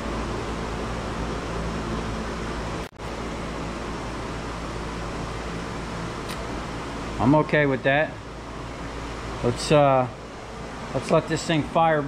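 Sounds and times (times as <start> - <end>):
fan running: 0.0 - 12.0.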